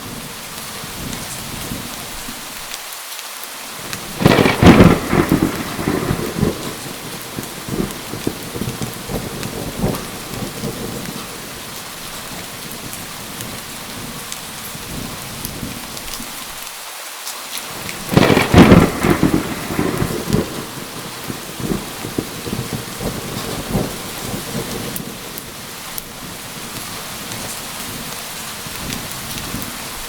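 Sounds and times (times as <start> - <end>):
steady rain falling: 0.0 - 30.0
thunderclap rumbling: 3.8 - 16.0, 17.7 - 30.0.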